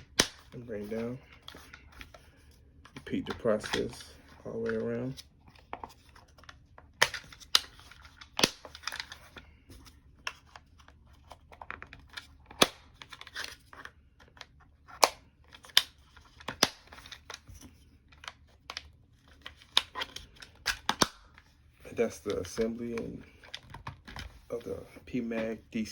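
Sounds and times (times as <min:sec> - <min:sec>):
plastic parts scraping and rattling: 0:00.5 - 0:25.9.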